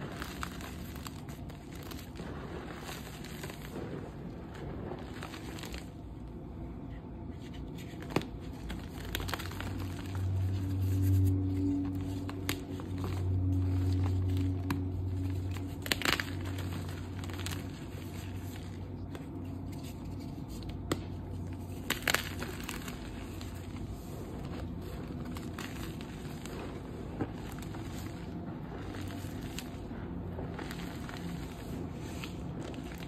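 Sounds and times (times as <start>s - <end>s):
chalk crunching by hand: 0.0s - 6.0s, 7.4s - 33.0s.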